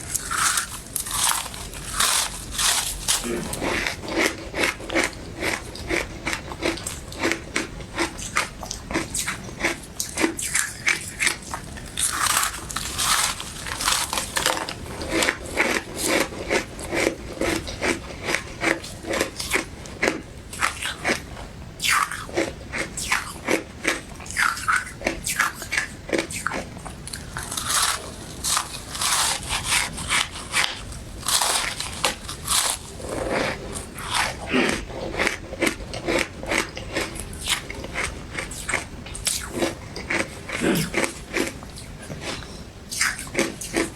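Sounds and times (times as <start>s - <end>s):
chewing crunchy ice: 0.0s - 43.9s.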